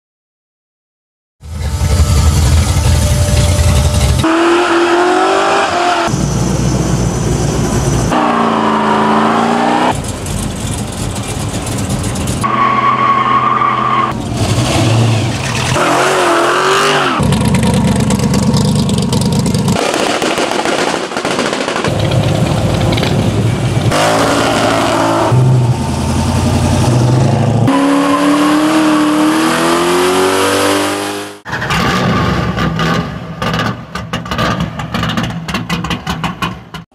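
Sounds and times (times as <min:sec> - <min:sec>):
car engines revving: 0:01.4 - 0:20.2, 0:21.9 - 0:36.8.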